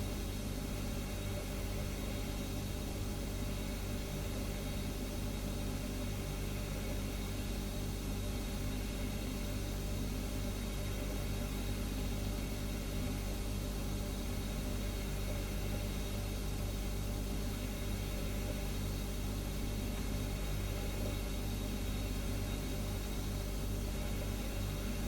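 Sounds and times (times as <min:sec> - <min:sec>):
refrigerator humming: 0:00.0 - 0:25.0.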